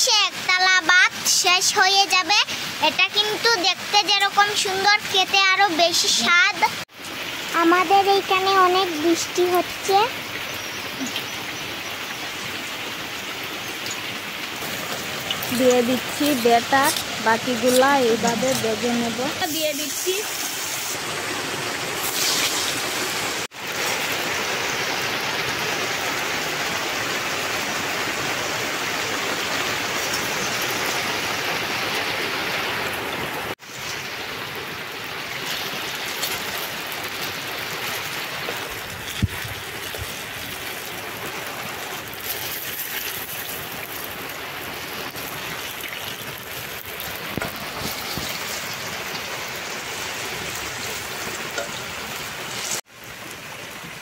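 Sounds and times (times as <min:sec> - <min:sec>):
food deep-frying in oil: 0:00.0 - 0:54.0.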